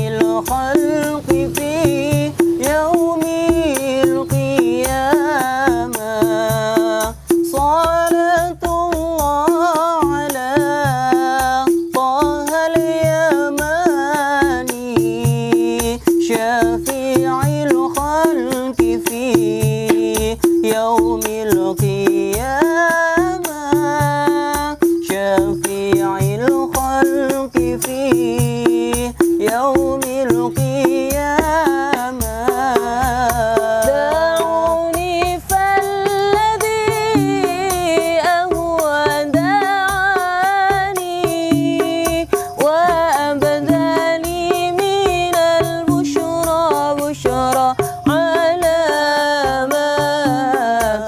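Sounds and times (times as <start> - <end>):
hand percussion: 0.0 - 51.0.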